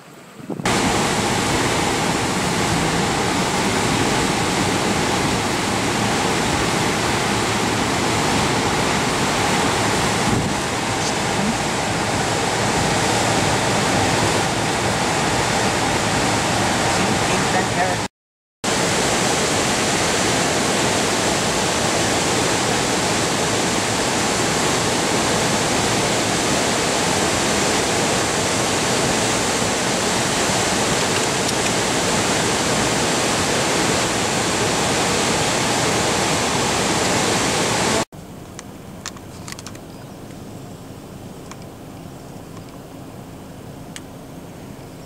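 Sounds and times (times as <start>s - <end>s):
river rushing: 0.0s - 18.1s, 18.7s - 44.8s.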